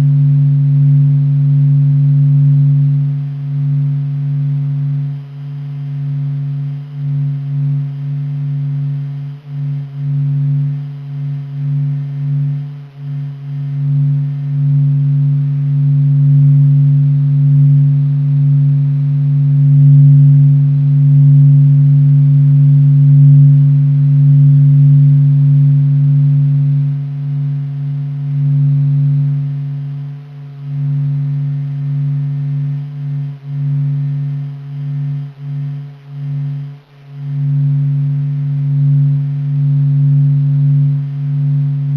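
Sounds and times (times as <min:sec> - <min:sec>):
deep steady hum: 0:00.0 - 0:41.9.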